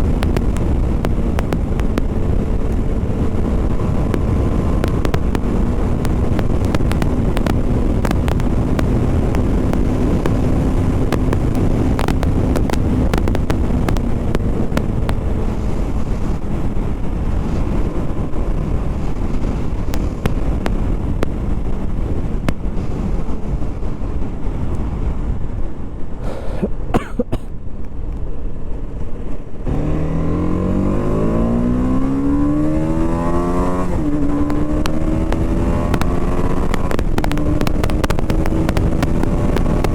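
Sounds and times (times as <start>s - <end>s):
motorcycle engine revving: 0.0s - 22.6s, 29.6s - 39.9s
wind rush on microphone: 0.0s - 39.9s.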